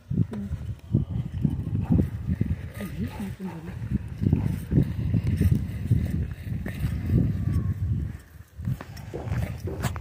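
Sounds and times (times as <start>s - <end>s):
footsteps on loose sand: 0.8s - 10.0s.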